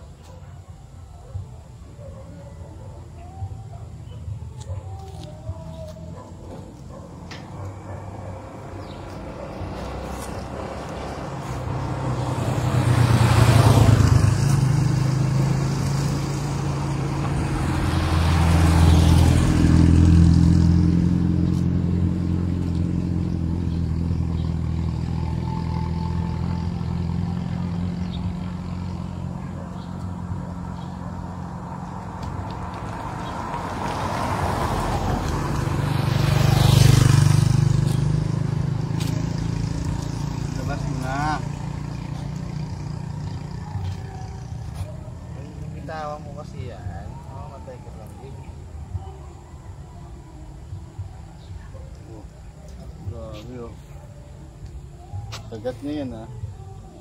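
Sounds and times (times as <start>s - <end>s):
vehicles passing by: 0.0s - 57.0s
low engine hum: 1.2s - 55.6s.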